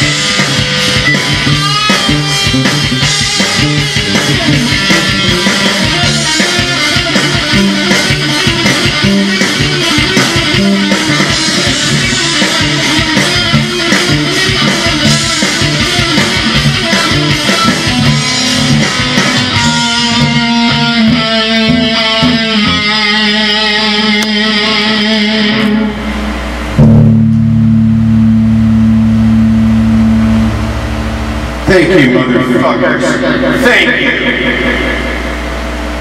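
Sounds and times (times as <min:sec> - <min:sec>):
live metal band playing: 0:00.0 - 0:36.0
loud low guitar chord: 0:00.0 - 0:36.0
ringing guitar notes: 0:00.0 - 0:36.0.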